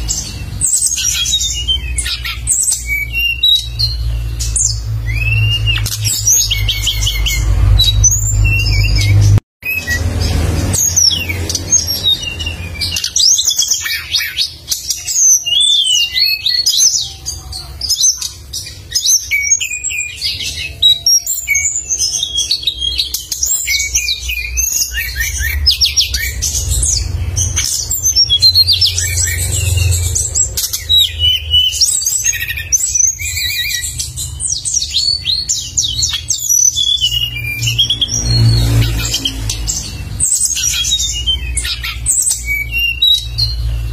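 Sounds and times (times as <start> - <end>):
songbird chirping and trilling: 0.0 - 43.9.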